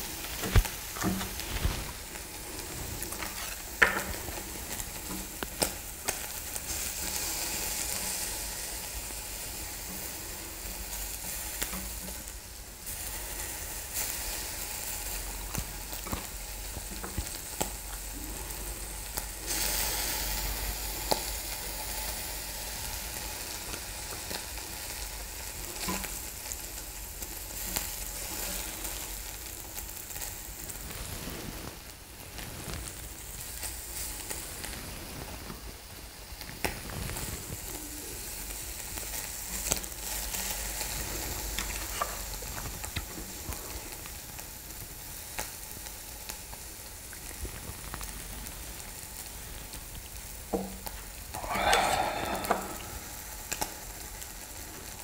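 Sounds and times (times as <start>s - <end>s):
meat sizzling on a grill: 0.0s - 55.0s.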